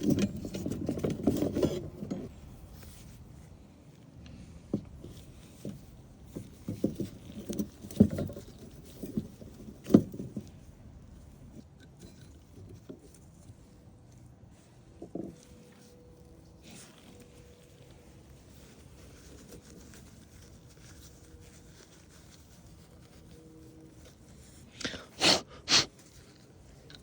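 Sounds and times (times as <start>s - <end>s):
rustling and handling: 0.0s - 27.0s.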